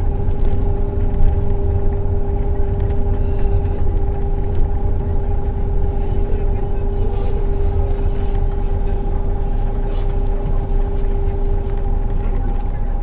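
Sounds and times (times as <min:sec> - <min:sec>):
heavy vehicle engine drone: 0:00.0 - 0:13.0
road rumble: 0:00.0 - 0:13.0.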